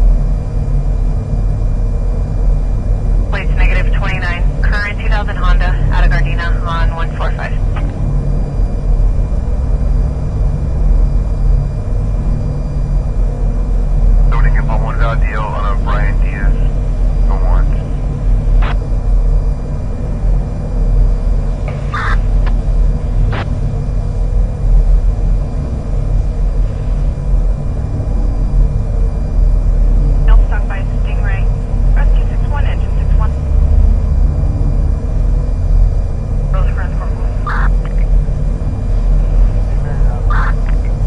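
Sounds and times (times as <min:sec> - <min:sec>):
faint high hums: 0:00.0 - 0:41.0
low rumble: 0:00.0 - 0:41.0.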